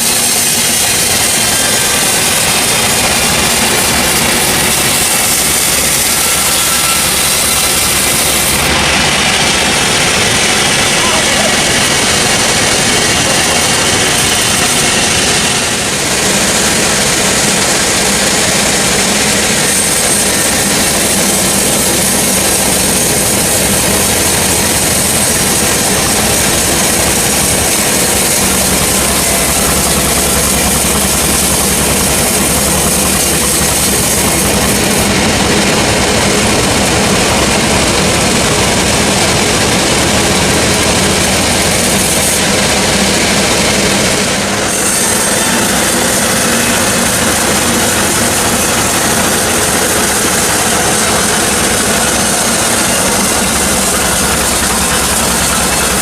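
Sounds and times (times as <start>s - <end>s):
saw cutting timber: 0.0s - 56.0s.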